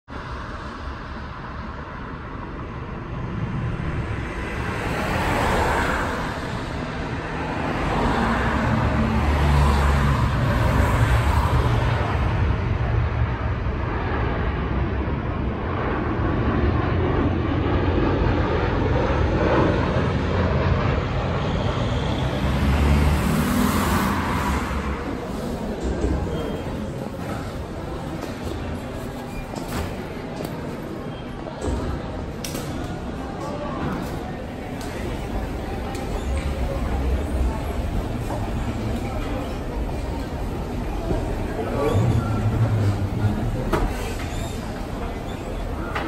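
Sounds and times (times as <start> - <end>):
jet engines rumbling overhead: 0.1 - 46.0.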